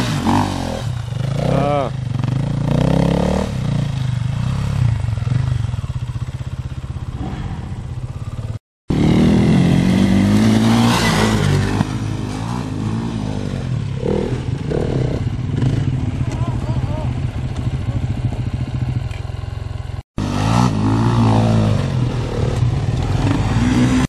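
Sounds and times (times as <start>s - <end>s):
distant motorcycle engine: 0.0s - 24.0s
motorcycle revving up close: 0.0s - 24.0s.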